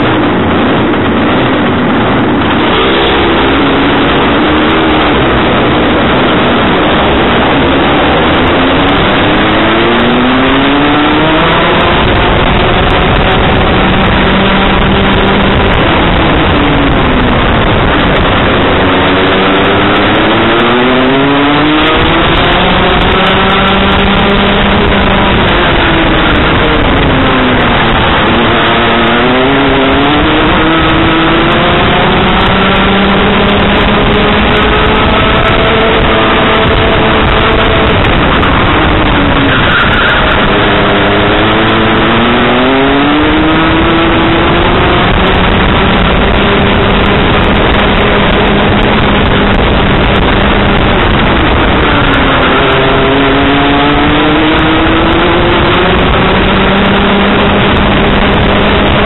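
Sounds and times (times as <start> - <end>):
kart engine at racing speed: 0.0 - 59.0.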